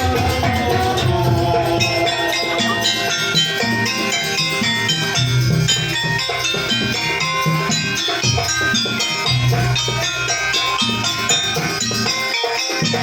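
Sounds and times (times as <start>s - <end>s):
drums: 0.0s - 13.0s
metallophones and gong-chimes: 0.0s - 13.0s.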